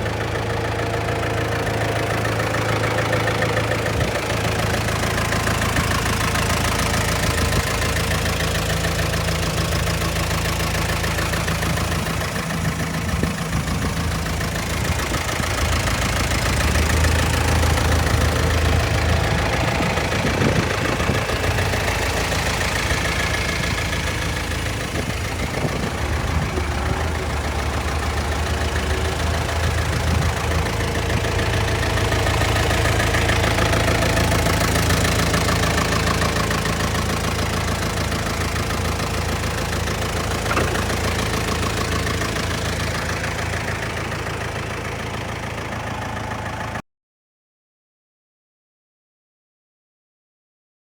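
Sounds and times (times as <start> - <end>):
forklift diesel engine idling: 0.0 - 46.8.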